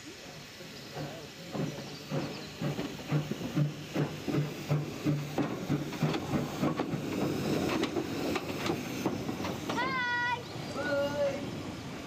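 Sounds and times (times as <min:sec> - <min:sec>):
steam hiss: 0:00.0 - 0:12.0
steam locomotive chuffing: 0:00.0 - 0:12.0.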